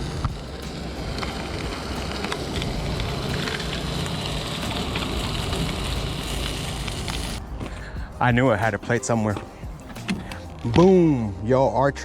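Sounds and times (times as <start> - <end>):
oil popping and crackling: 0.0 - 10.8.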